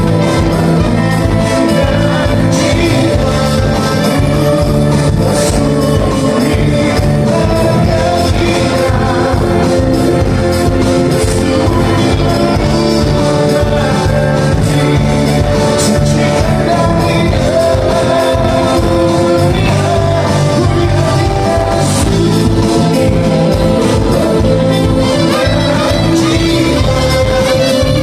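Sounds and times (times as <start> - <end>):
live band playing: 0.0 - 28.0
person singing: 0.0 - 28.0.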